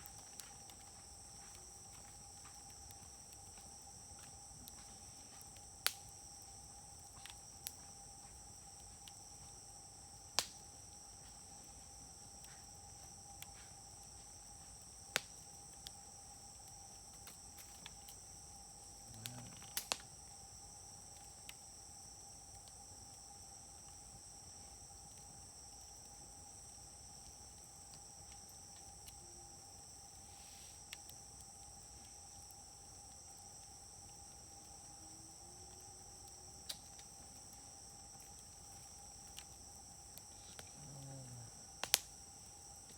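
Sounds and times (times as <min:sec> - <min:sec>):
wood fire popping: 0:00.0 - 0:30.1, 0:35.8 - 0:42.9
crickets trilling: 0:00.0 - 0:42.9.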